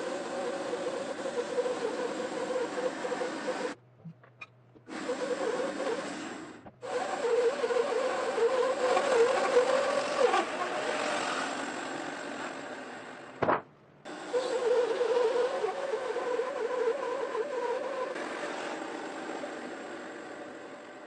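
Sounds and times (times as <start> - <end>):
bandsaw cutting through log: 0.0 - 3.8, 4.9 - 12.7, 14.1 - 20.4.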